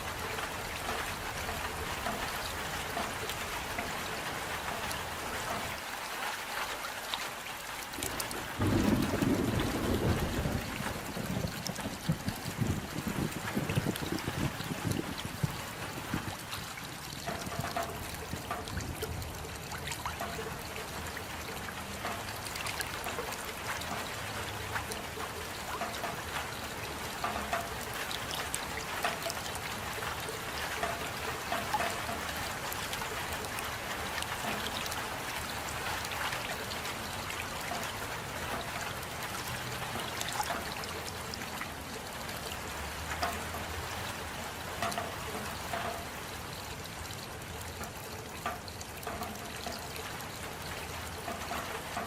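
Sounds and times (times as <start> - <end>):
steady rain: 0.0 - 52.0
water trickling: 0.0 - 52.0.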